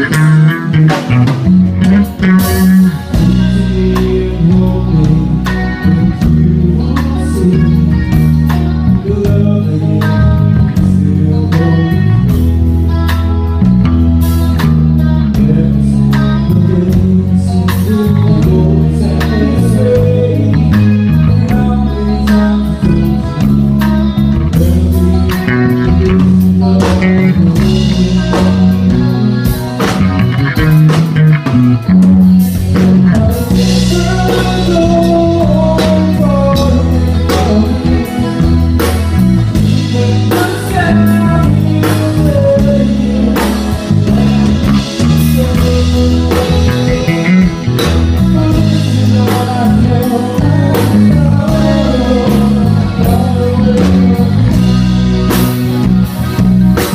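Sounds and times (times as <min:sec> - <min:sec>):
drum kit played hard: 0:00.0 - 0:56.9
electric guitar: 0:00.0 - 0:56.9
person singing: 0:00.0 - 0:56.9.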